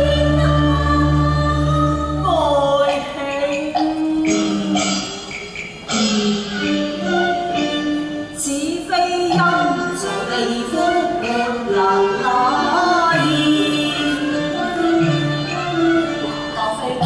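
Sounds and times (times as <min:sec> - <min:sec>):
opera singing: 0:00.0 - 0:05.1, 0:08.4 - 0:17.0
traditional instrumental accompaniment: 0:00.0 - 0:17.0.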